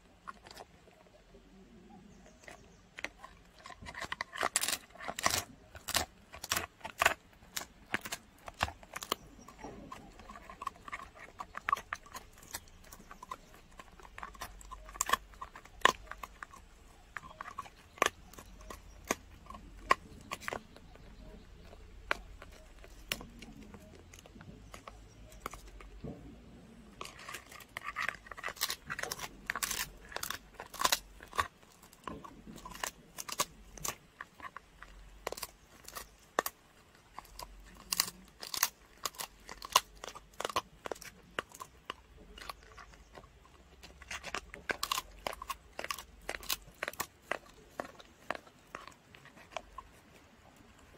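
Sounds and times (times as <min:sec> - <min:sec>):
dog chewing hard treat: 0:00.0 - 0:50.9.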